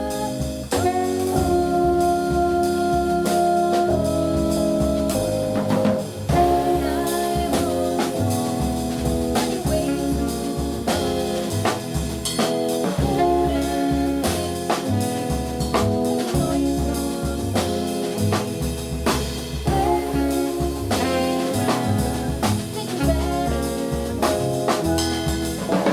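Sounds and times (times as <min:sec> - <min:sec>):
drum kit with cymbals: 0:00.0 - 0:25.9
saxophone melody: 0:00.0 - 0:25.9
walking double bass: 0:00.0 - 0:25.9.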